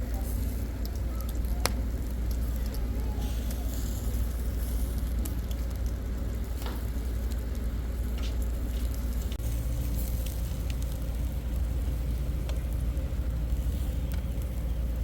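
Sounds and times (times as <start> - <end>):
deep rumble: 0.0 - 15.0
fire crackling and popping: 0.0 - 15.0.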